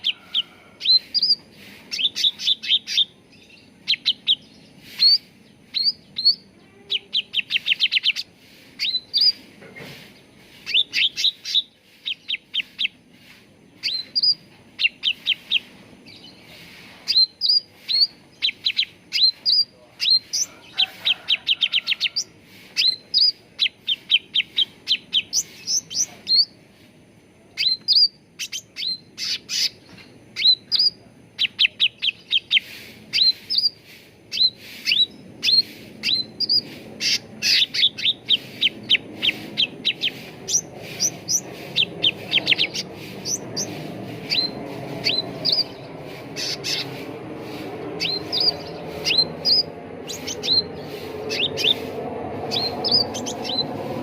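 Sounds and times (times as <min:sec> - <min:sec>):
bird chirping and whistling: 0:00.0 - 0:09.4, 0:10.6 - 0:13.0, 0:13.8 - 0:16.3, 0:17.1 - 0:20.5, 0:22.8 - 0:26.6, 0:27.6 - 0:47.0, 0:48.0 - 0:51.9, 0:52.5 - 0:53.8.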